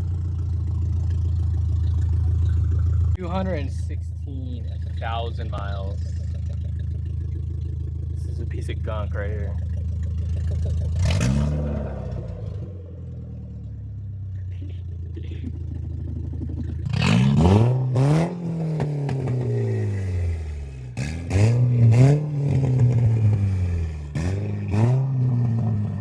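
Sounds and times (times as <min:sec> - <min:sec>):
car engine revving: 0:00.0 - 0:26.0
exhaust popping: 0:00.0 - 0:26.0.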